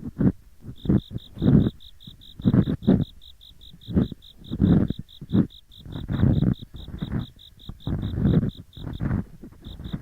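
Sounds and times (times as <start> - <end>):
ear pick scraping: 0.0 - 3.2, 3.8 - 10.0
insects chirping: 0.1 - 10.0.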